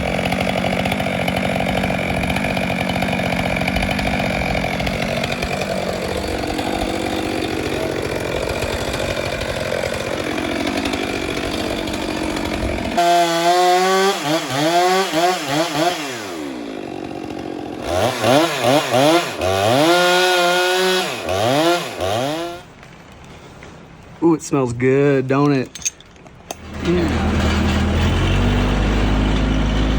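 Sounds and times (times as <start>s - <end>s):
chainsaw revving: 0.0s - 22.7s, 26.5s - 29.9s
chainsaw cutting wood: 0.0s - 23.4s, 26.4s - 29.9s.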